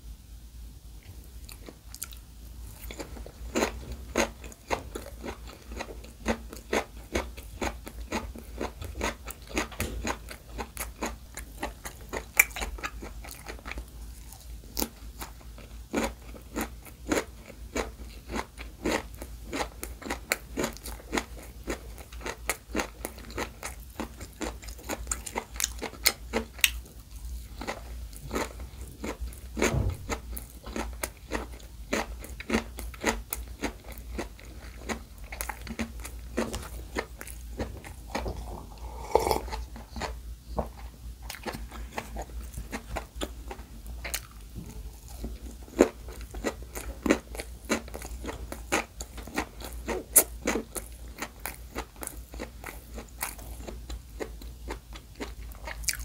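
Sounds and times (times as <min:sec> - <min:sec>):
crunchy chewing: 0:01.0 - 0:40.2, 0:40.8 - 0:56.0.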